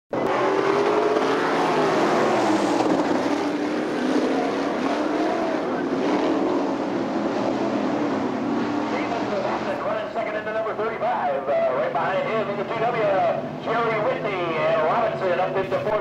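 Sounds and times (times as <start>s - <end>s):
race car engines passing: 0.2s - 16.0s.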